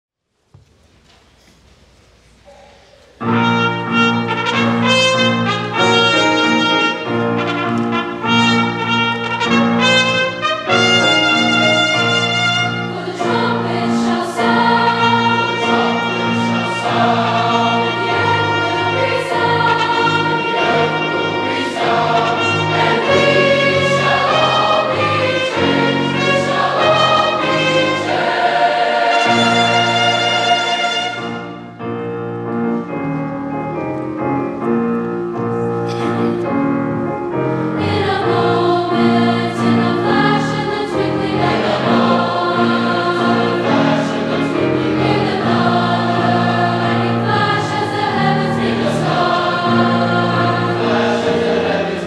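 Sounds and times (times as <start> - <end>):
choir singing with instruments: 3.2 - 32.1, 35.6 - 52.0.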